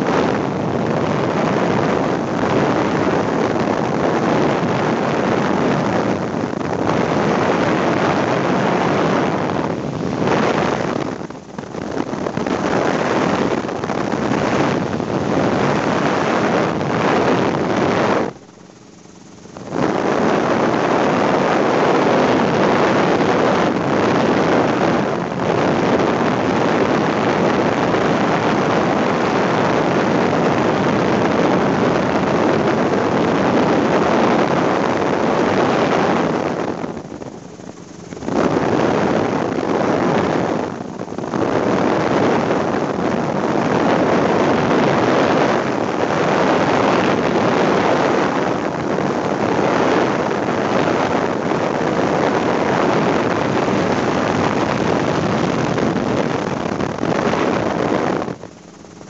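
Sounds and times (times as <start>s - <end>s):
helicopter engine and rotor noise: 0.0s - 59.0s
wind buffeting microphone: 0.0s - 59.0s.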